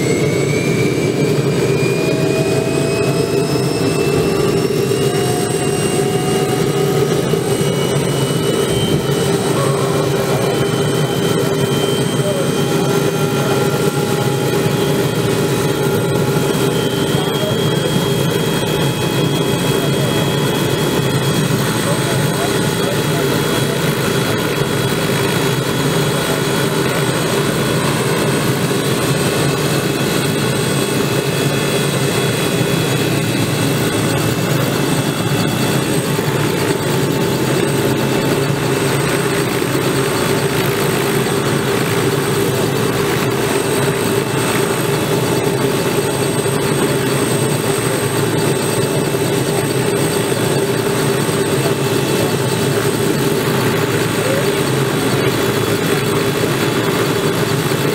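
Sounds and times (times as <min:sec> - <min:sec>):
helicopter engine and rotor noise: 0:00.0 - 0:57.9
helicopter turbine whine: 0:00.0 - 0:57.9.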